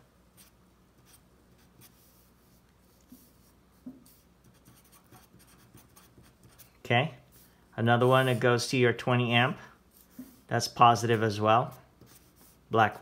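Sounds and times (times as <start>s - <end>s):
marker scratching on paper: 0.3s - 8.7s, 9.9s - 13.0s.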